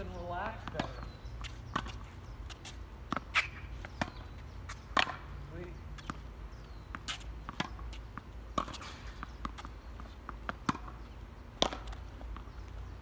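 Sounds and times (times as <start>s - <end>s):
ball bouncing on hard court: 0.0s - 5.3s, 6.0s - 12.8s
racket striking tennis ball: 0.2s - 5.3s, 6.0s - 11.0s, 11.6s - 12.5s.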